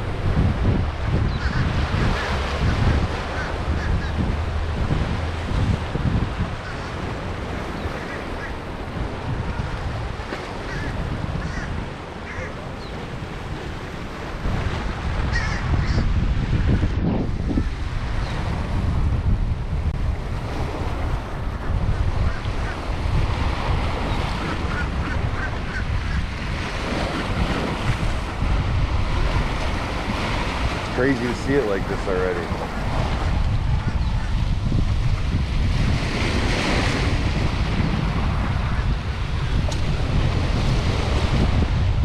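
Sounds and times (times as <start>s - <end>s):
surf washing: 0.0s - 42.0s
wind buffeting microphone: 0.0s - 42.0s.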